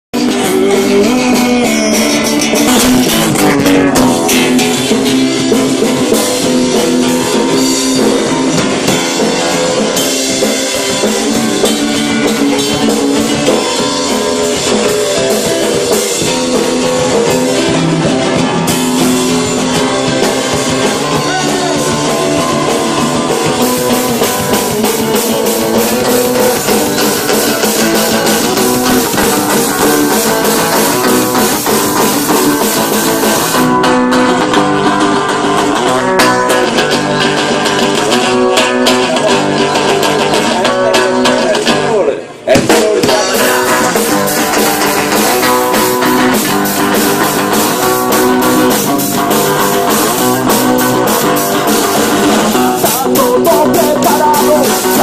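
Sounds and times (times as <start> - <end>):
acoustic-electric guitar: 0.0 - 55.0
bass guitar: 0.0 - 55.0
drum kit: 0.1 - 55.0.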